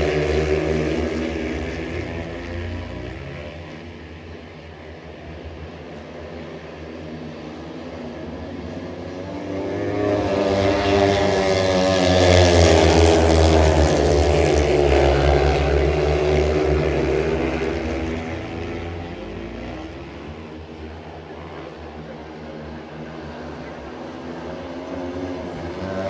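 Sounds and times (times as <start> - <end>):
motorcycle engines racing past: 0.0 - 26.0.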